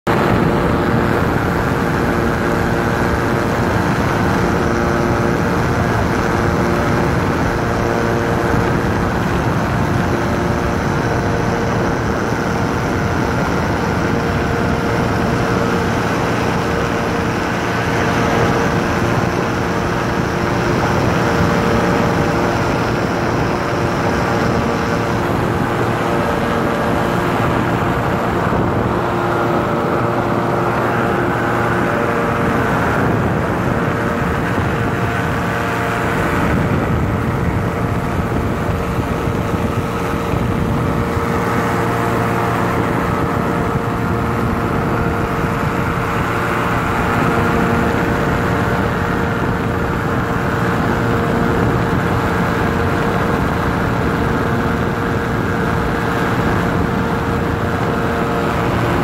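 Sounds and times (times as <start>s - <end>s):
engine and propeller running: 0.0s - 59.0s.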